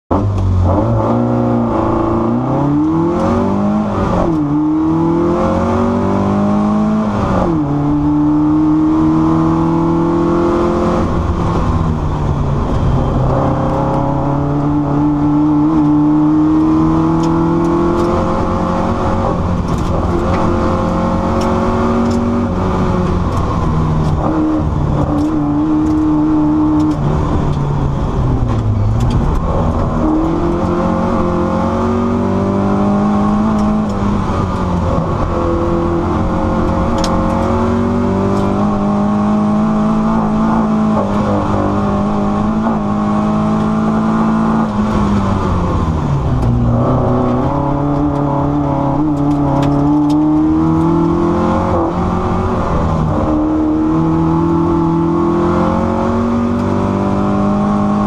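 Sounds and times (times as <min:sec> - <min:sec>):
racing car engine revving: 0:00.1 - 0:58.0.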